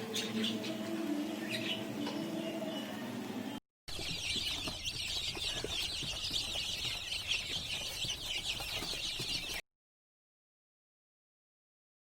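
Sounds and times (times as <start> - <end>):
many birds chirping: 0.0 - 9.6.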